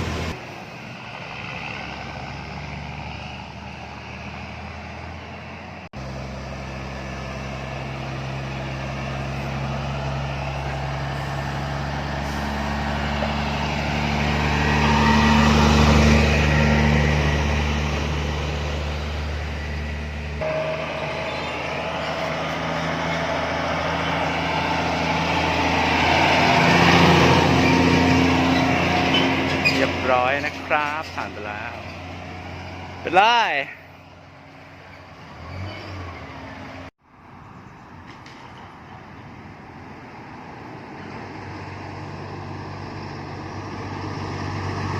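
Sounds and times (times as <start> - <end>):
diesel truck engine driving past: 0.0 - 44.9.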